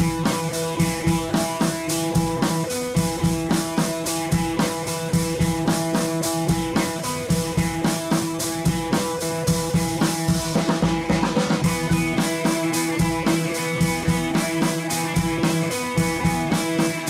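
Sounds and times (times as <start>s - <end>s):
drum kit steady beat: 0.0s - 17.0s
guitar: 0.0s - 17.0s.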